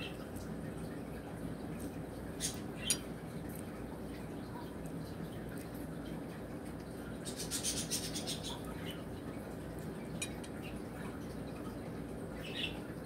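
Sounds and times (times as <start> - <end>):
low room hum: 0.0 - 13.0
wet eating noises: 0.2 - 12.9.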